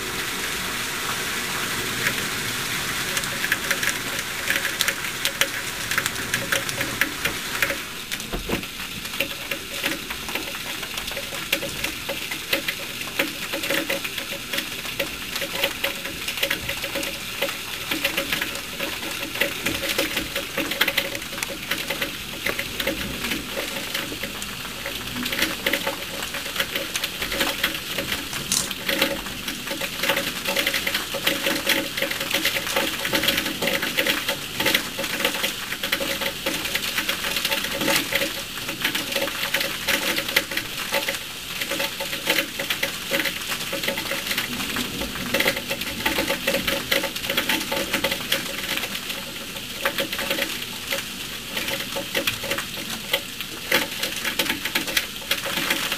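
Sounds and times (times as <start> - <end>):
heavy rain pattering: 0.0 - 55.9.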